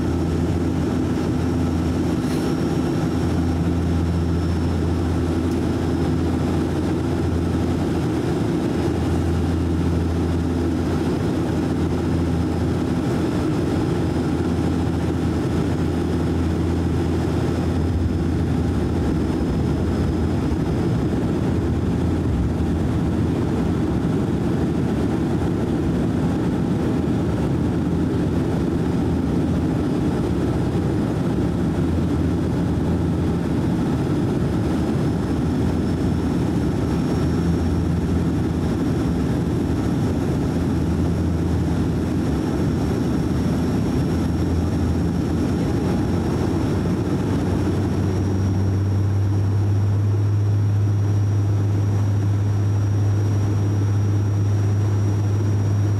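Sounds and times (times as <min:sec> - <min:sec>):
turboprop cabin drone: 0:00.0 - 0:55.9.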